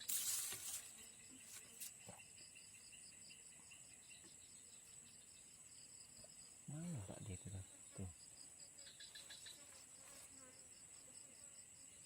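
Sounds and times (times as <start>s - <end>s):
insects droning and chirping: 0.0s - 12.0s.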